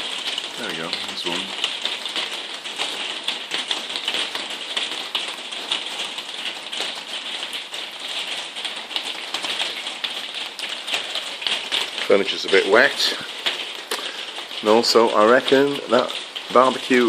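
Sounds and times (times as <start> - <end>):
heavy rain on a roof: 0.0 - 17.0.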